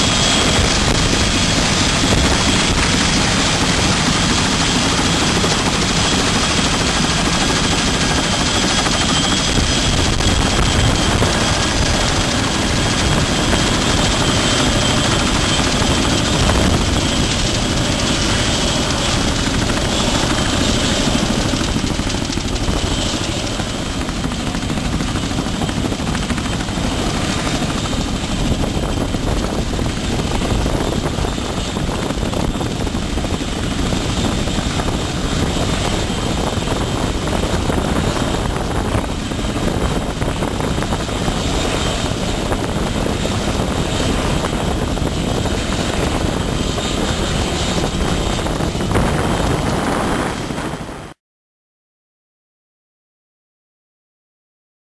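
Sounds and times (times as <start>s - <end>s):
helicopter turbine and rotors: 0.0s - 51.2s.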